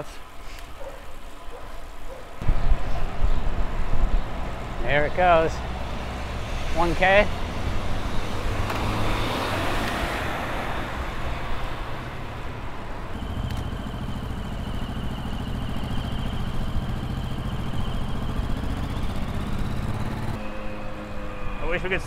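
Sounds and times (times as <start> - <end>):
hum of motor traffic: 0.0 - 22.0.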